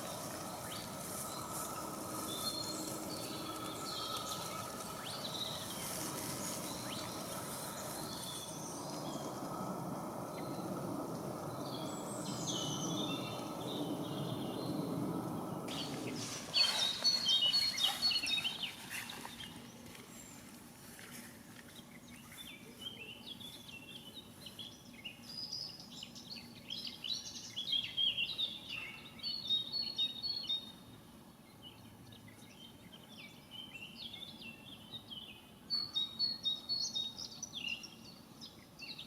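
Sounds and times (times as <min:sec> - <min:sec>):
low steady background noise: 0:00.0 - 0:39.0
songbirds chirping: 0:00.0 - 0:39.0.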